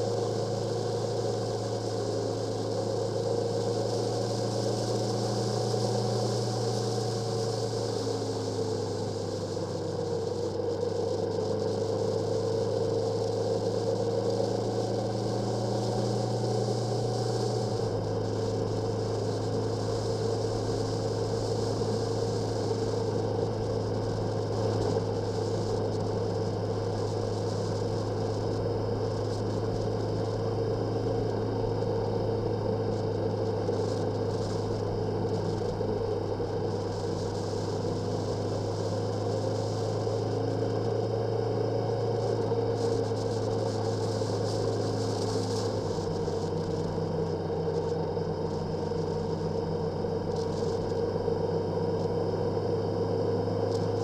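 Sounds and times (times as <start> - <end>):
motorcycle engine running: 0.0 - 52.1.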